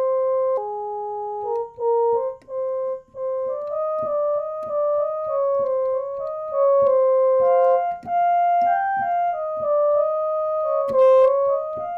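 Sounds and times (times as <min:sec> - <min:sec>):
electronic keyboard melody: 0:00.0 - 0:11.9.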